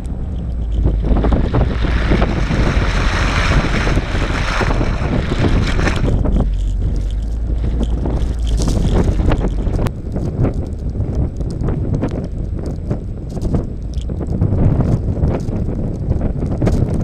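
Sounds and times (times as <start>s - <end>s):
car rumbling: 0.0s - 17.0s
snow rushing and crackling: 0.2s - 17.0s.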